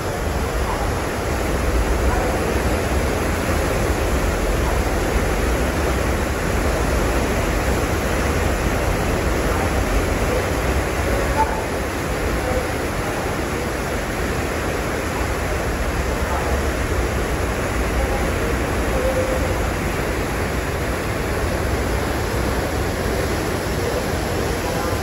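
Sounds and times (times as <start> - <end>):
churning foaming water: 0.0 - 25.0.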